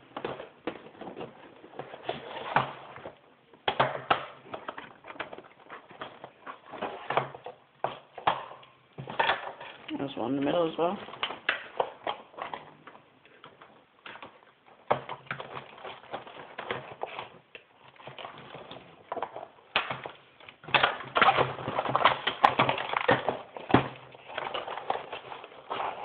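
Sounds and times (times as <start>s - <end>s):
cardboard and plastic packaging rustling: 0.0s - 26.0s.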